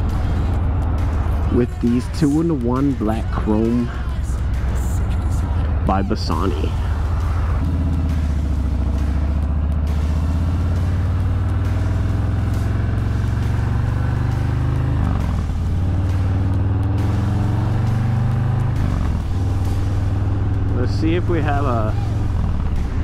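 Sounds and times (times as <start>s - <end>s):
motorcycle engine while riding: 0.0s - 23.0s.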